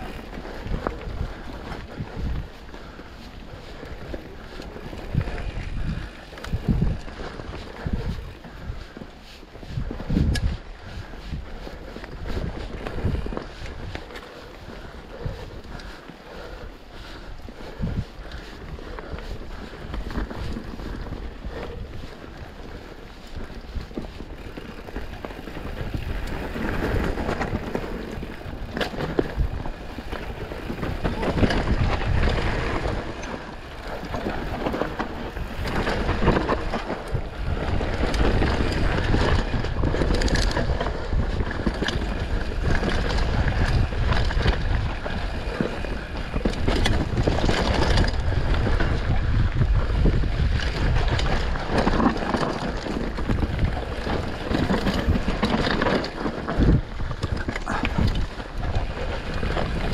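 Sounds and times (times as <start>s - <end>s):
bike rattling over bumps: 0.0s - 59.9s
bike tyres rolling on dirt: 0.0s - 59.9s
wind on microphone: 0.0s - 59.9s.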